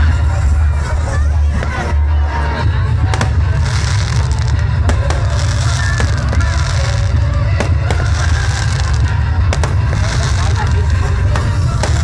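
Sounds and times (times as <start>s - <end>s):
fireworks bangs and crackling: 0.0s - 12.0s
loud music with heavy bass: 0.0s - 12.0s.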